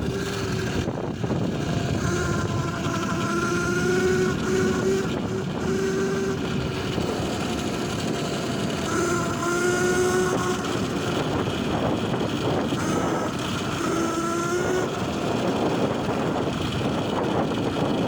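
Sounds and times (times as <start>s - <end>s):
electric motor whining: 0.0s - 18.0s
tyre and wind noise: 0.0s - 18.0s.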